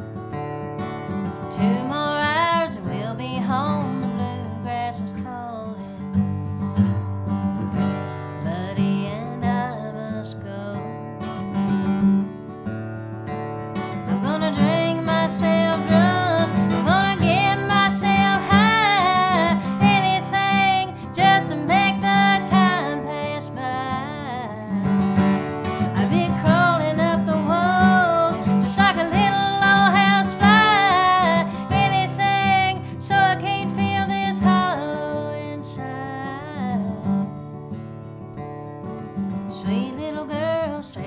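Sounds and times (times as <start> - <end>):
plucked acoustic guitar: 0.0 - 41.0
woman singing: 1.2 - 6.2, 8.4 - 11.4, 13.8 - 37.4, 39.4 - 41.0.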